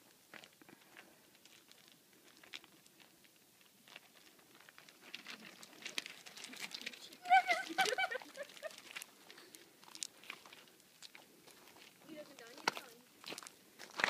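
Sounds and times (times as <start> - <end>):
footsteps on gravel: 0.3 - 14.0.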